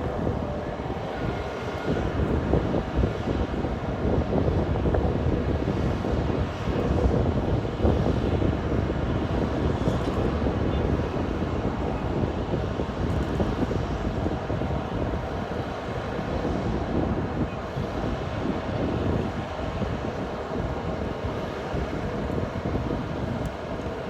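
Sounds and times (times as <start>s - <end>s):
jet engines running: 0.0s - 24.0s
wind buffeting microphone: 0.0s - 24.0s.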